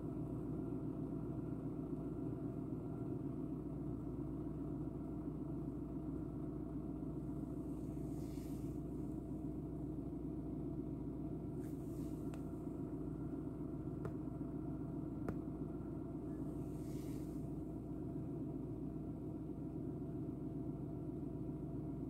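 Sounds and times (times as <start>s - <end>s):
car engine idling: 3.5s - 22.0s.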